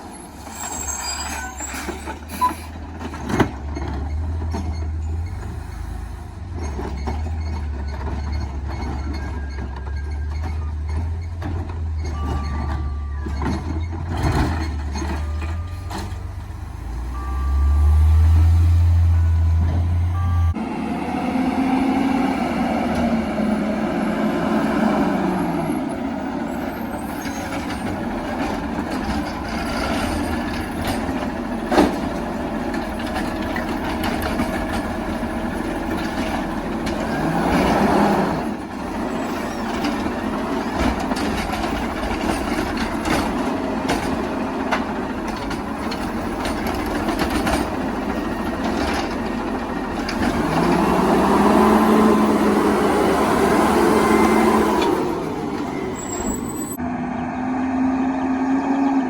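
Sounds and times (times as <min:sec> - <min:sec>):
garbage truck engine running: 0:00.0 - 0:56.8.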